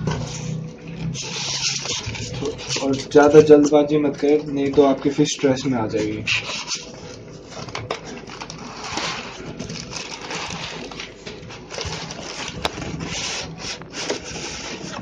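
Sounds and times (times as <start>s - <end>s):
plastic and cardboard rustling: 0.0s - 15.0s.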